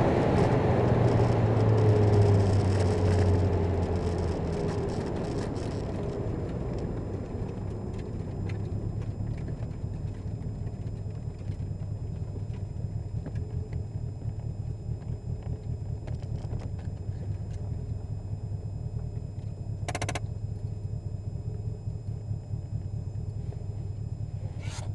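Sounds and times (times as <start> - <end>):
car engine rumbling at low revs: 0.0 - 24.9.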